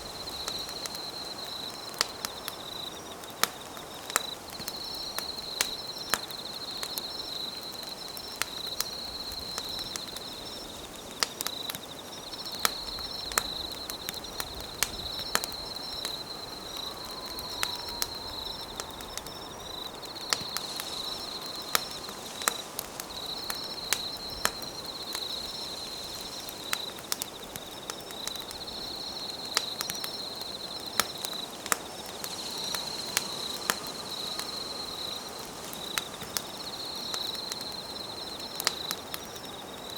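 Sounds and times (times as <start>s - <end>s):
campfire crackling: 0.0s - 39.9s
insects trilling: 0.0s - 39.9s.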